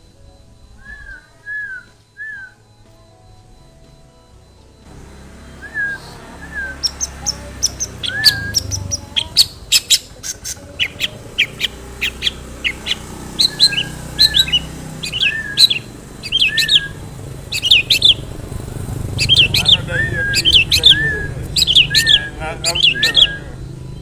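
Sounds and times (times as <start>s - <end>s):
shrike chirping song: 4.4s - 24.0s.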